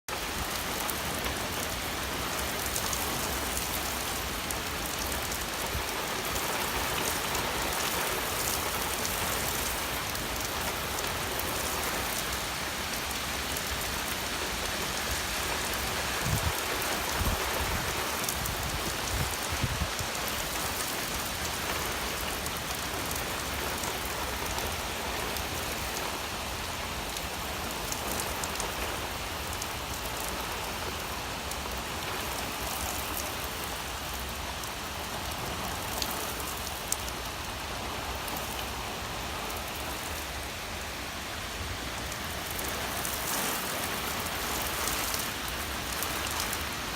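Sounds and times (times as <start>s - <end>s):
heavy rain pouring: 0.1s - 46.9s.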